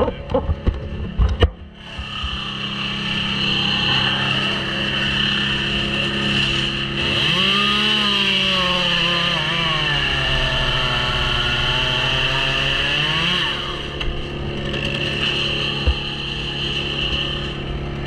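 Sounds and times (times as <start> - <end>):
chainsaw running and revving: 1.8 - 18.0.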